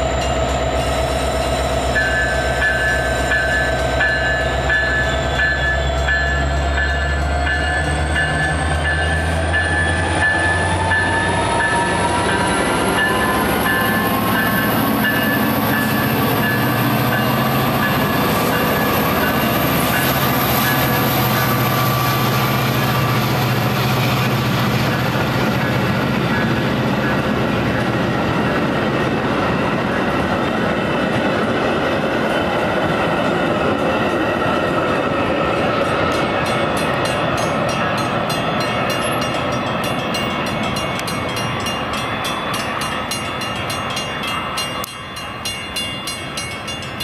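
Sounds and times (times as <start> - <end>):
diesel locomotive passing: 0.0 - 47.0
train coaches rolling over rails: 0.0 - 47.0.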